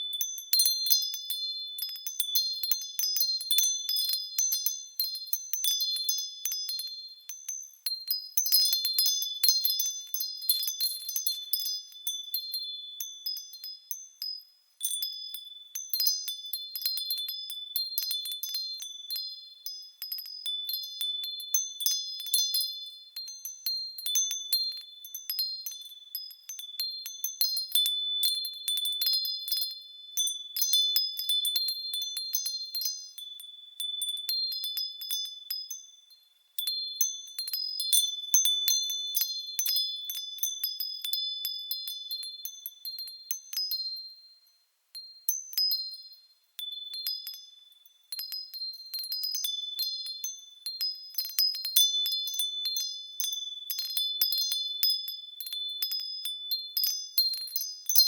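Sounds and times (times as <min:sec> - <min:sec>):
wind chimes tinkling: 0:00.0 - 0:58.0.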